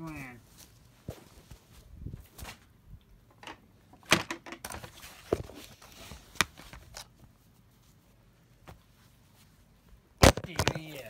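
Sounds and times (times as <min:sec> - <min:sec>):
rustling: 0:00.0 - 0:02.8, 0:04.7 - 0:11.0.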